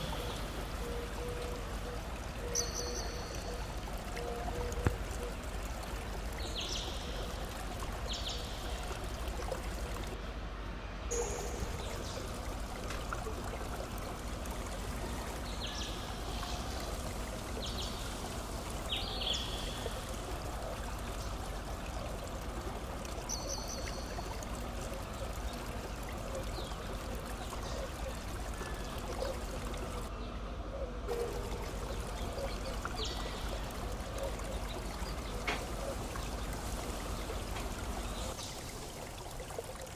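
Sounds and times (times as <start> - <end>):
running water: 0.0 - 30.1, 30.7 - 39.9.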